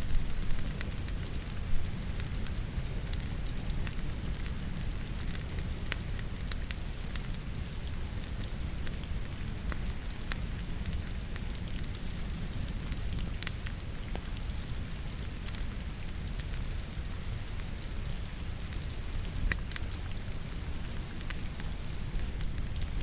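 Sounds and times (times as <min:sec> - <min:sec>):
logs crackling in fireplace: 0:00.0 - 0:23.0
rain rushing: 0:00.0 - 0:23.0.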